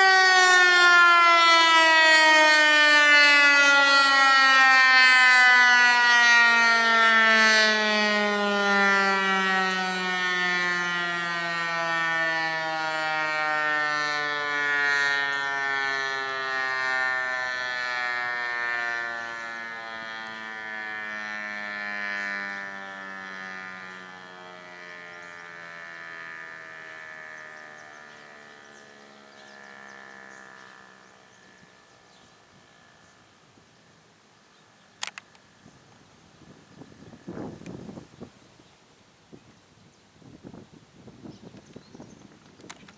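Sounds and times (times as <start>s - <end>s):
warning siren wail winding down: 0.0s - 34.3s, 36.4s - 38.3s.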